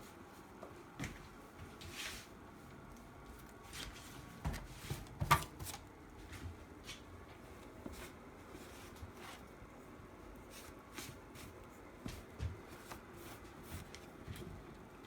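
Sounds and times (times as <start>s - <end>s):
soft rustling and handling: 0.0s - 15.0s.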